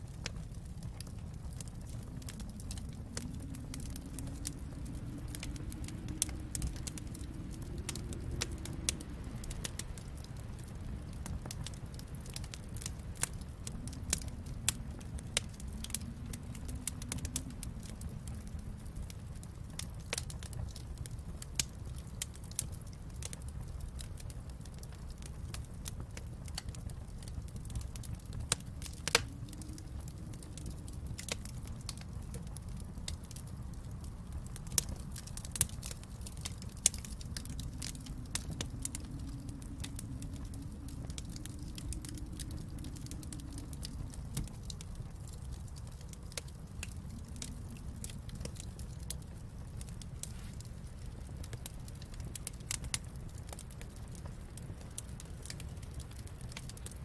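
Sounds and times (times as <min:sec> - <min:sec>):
low rumble: 0:00.0 - 0:21.4, 0:26.4 - 0:52.6
wood fire crackling and popping: 0:00.0 - 0:57.0.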